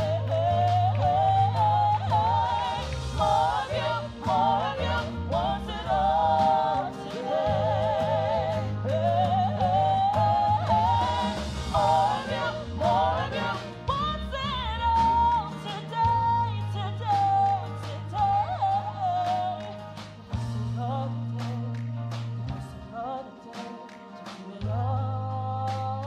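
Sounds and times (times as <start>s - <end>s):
woman singing gospel: 0.0s - 19.9s, 20.5s - 22.0s, 22.6s - 26.0s
keyboard bass notes: 0.0s - 23.4s, 24.6s - 26.0s.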